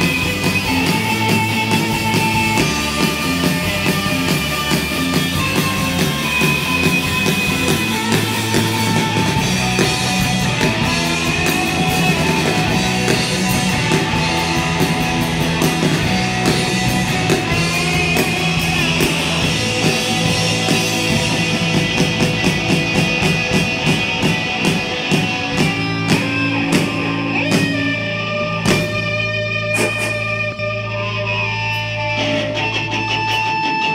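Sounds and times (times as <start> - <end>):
drum kit beat: 0.0 - 30.8
bass guitar: 0.0 - 33.9
electric guitars: 0.0 - 33.9.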